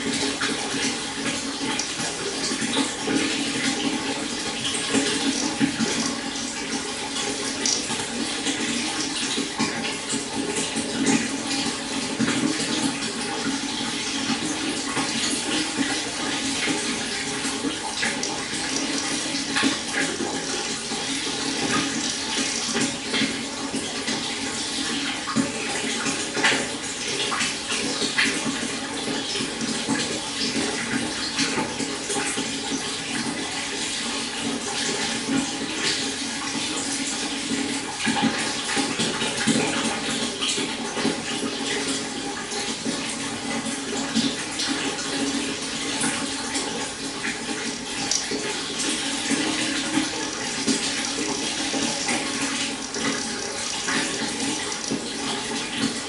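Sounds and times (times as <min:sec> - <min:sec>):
babbling stream: 0:00.0 - 0:27.2, 0:34.3 - 0:56.0.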